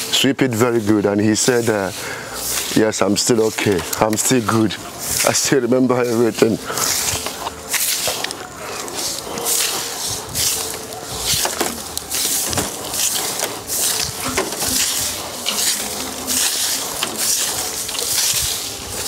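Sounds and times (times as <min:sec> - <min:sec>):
broom sweeping dirt: 0:00.0 - 0:19.0.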